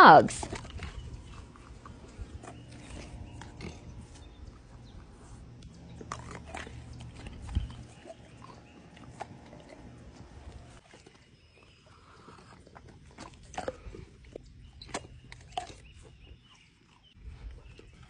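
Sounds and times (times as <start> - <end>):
dogs chewing meat: 0.0 - 18.0.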